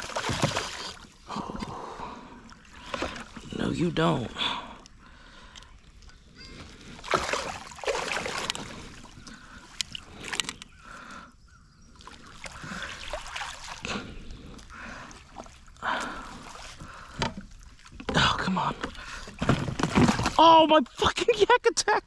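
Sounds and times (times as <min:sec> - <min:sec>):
water splashing against kayak: 0:00.0 - 0:11.2, 0:11.9 - 0:21.0.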